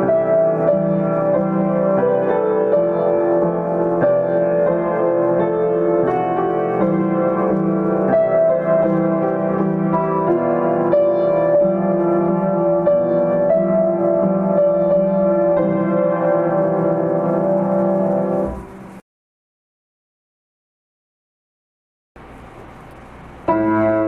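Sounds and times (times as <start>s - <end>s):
slow gentle piano: 0.0s - 19.0s, 22.2s - 24.0s.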